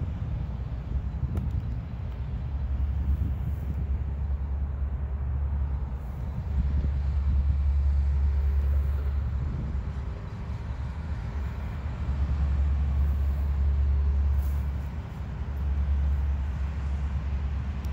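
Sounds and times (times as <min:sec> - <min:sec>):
road traffic rumble: 0:00.0 - 0:17.9.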